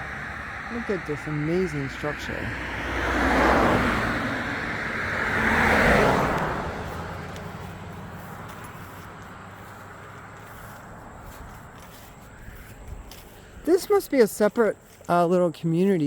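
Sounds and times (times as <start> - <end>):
cars passing: 0.0 - 16.0
faint traffic hum: 0.0 - 16.0.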